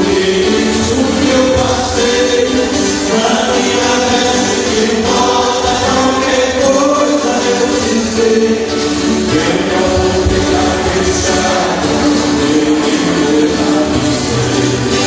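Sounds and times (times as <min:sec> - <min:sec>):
band backing music: 0:00.0 - 0:15.0
voices singing together: 0:00.0 - 0:15.0.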